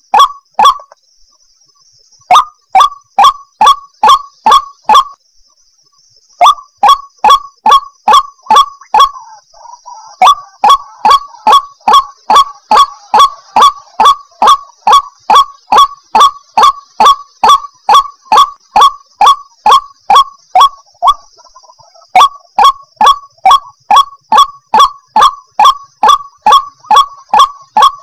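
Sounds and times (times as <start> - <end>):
bird harsh repeated call: 0.0 - 1.4, 2.0 - 5.2, 5.8 - 28.0.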